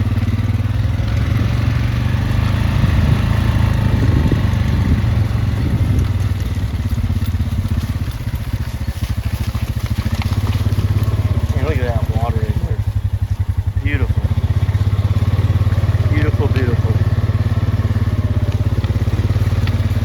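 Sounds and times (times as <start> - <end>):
small vehicle engine running: 0.0 - 20.0.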